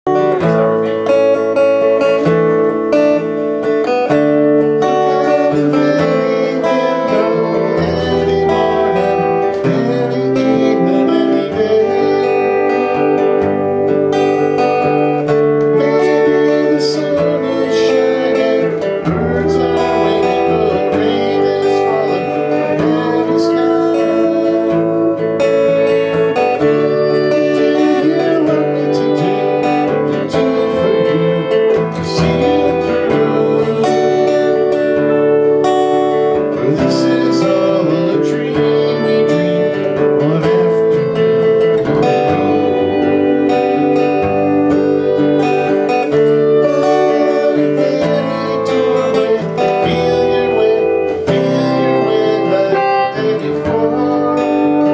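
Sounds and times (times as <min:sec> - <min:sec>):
acoustic guitar music: 0:00.0 - 0:54.9.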